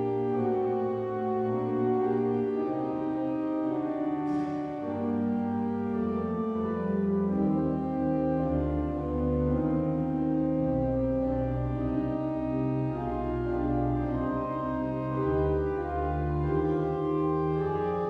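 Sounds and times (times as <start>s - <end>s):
pipe organ chords: 0.0s - 18.0s.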